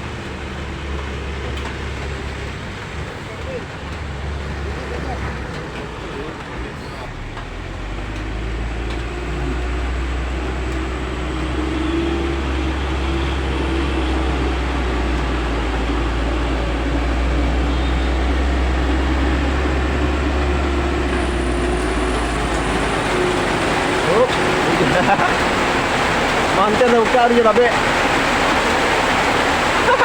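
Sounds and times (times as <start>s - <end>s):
truck diesel engine droning: 0.0s - 30.0s.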